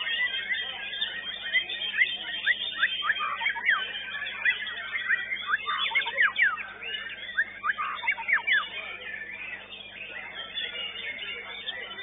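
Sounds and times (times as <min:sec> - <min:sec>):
bird singing whistled sweeps: 0:00.0 - 0:12.0.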